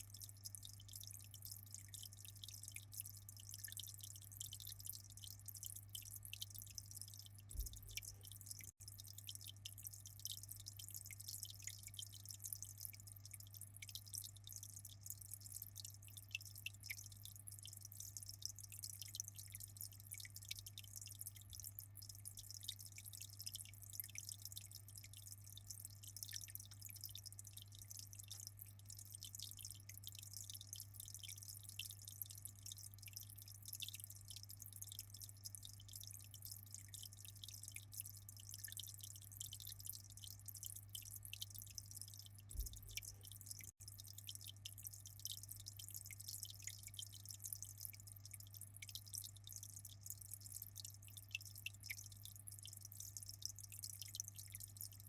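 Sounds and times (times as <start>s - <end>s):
aquarium water trickling: 0.0s - 55.0s.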